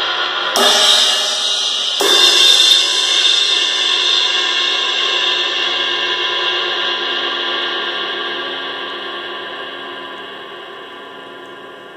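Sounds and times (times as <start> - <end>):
crash cymbal struck with stick: 0.0 - 11.2.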